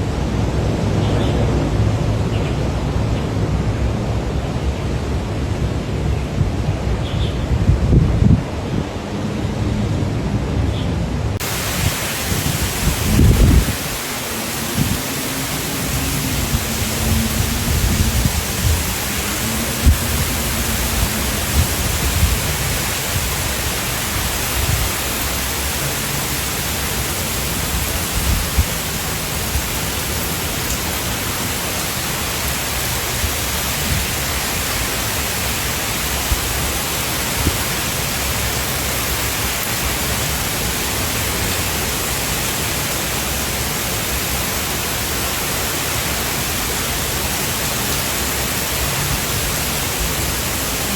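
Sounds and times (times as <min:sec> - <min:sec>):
wind gusts buffeting microphone: 0:00.0 - 0:42.2
wind and driving rain: 0:00.0 - 0:50.9.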